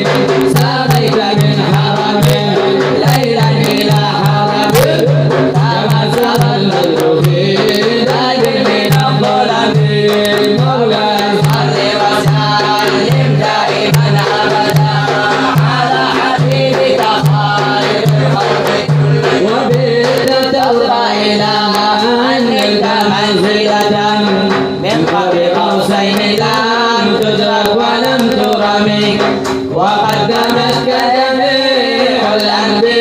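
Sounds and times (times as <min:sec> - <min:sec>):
hand drum beat: 0:00.0 - 0:33.0.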